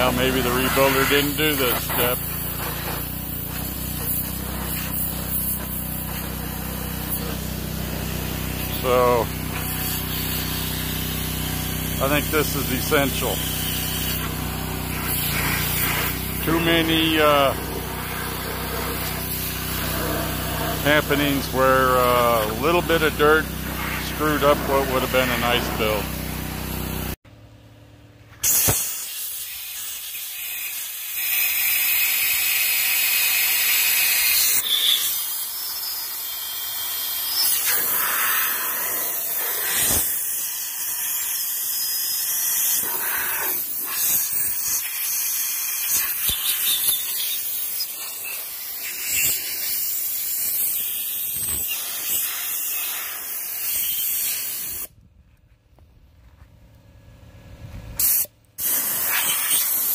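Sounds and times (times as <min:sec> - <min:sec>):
compressed air blow gun hissing: 0:00.0 - 0:27.2, 0:28.4 - 0:54.9, 0:58.0 - 0:59.9.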